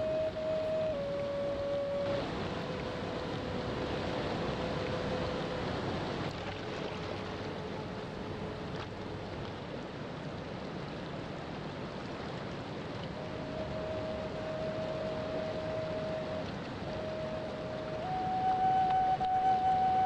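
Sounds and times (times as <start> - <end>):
ocean surf washing: 0.0 - 10.4, 11.1 - 20.0.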